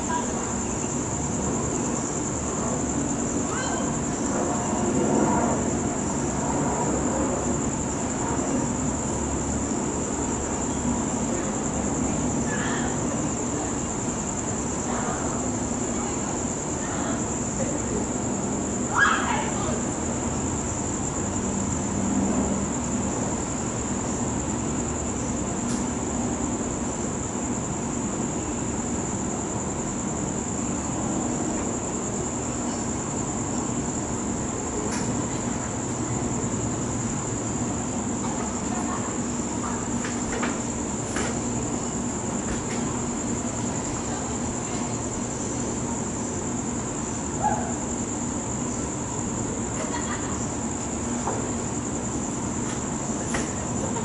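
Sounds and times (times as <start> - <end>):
crickets chirring: 0.0 - 54.0
low background hum: 0.0 - 54.0.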